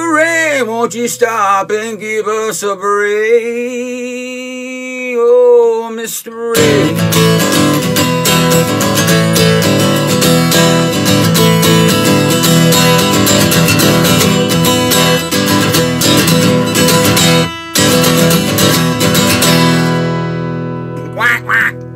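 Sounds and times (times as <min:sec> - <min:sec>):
strummed acoustic guitar: 0:00.0 - 0:04.5, 0:06.5 - 0:21.9.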